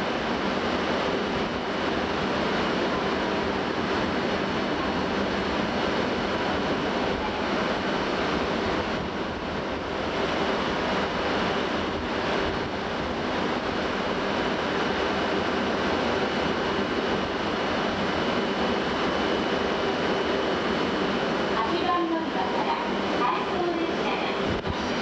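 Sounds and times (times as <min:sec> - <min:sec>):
faint constant hum: 0:00.0 - 0:25.0.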